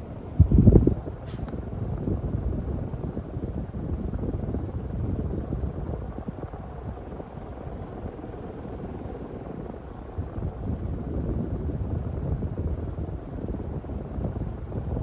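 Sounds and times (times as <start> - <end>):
ceiling fan draft buffeting microphone: 0.0 - 15.0.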